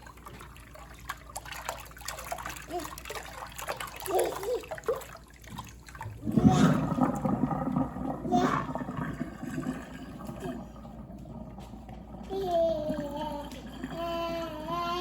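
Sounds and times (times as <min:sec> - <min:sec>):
water draining down sink plughole: 0:00.0 - 0:15.0.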